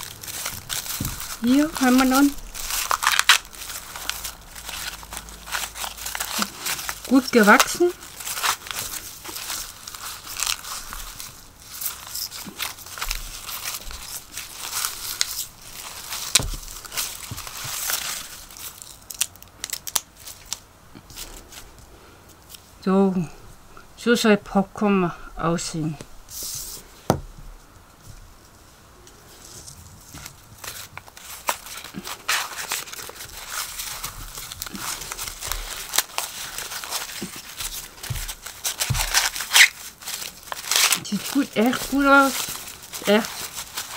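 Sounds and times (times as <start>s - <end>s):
dry husk leaves tearing: 0.0s - 21.7s, 29.3s - 43.9s.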